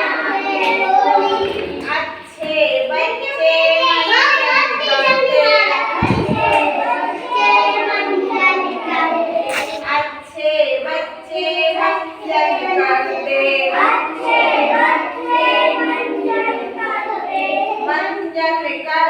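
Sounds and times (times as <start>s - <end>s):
children singing in chorus: 0.0s - 19.0s.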